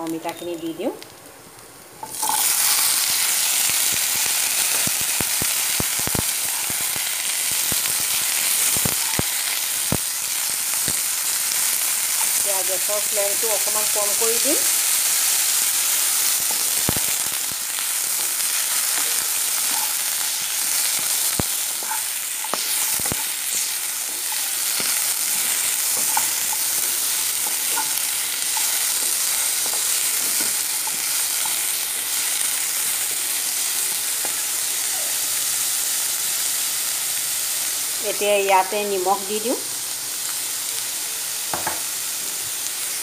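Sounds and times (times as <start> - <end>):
food sizzling in oil: 1.9 - 43.0.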